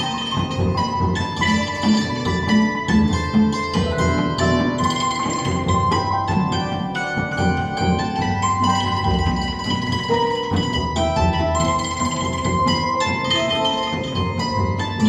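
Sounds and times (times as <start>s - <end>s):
hammered dulcimer: 0.0s - 15.0s
low bass notes: 0.0s - 15.0s
steel pans playing: 0.0s - 15.0s.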